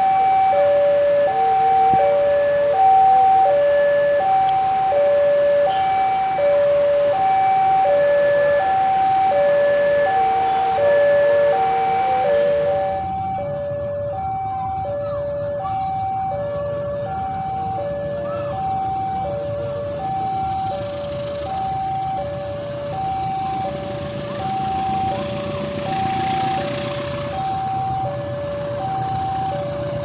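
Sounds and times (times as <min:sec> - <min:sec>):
level crossing warning alarm: 0:00.0 - 0:30.0.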